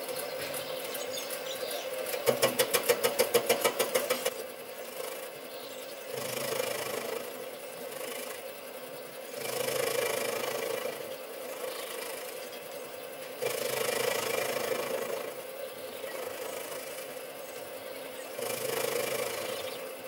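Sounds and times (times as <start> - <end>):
lathe humming: 0.0 - 20.0.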